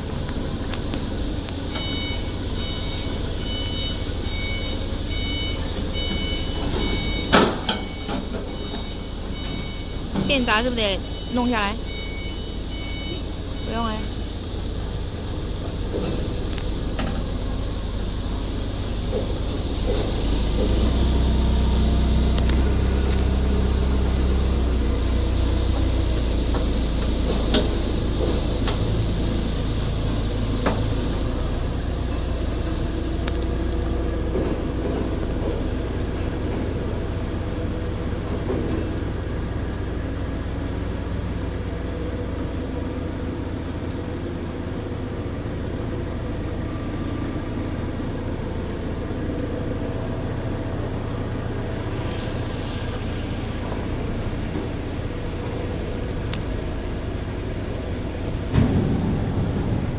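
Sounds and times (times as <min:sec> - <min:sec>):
low machinery rumble and hum: 0:00.0 - 0:59.9.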